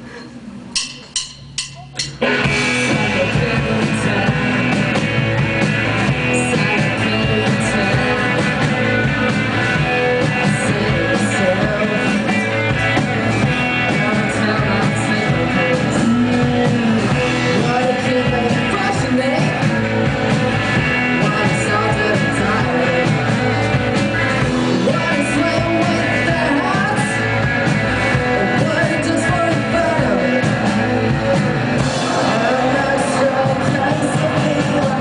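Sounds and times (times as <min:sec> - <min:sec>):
drum kit: 0:00.6 - 0:35.0
electric guitar: 0:01.8 - 0:35.0.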